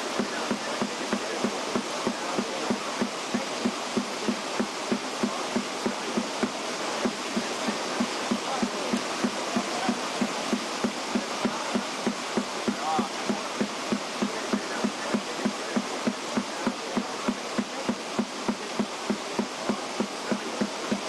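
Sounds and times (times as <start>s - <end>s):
drum beating evenly: 0.0s - 21.0s
steady rattling hiss: 0.0s - 21.0s.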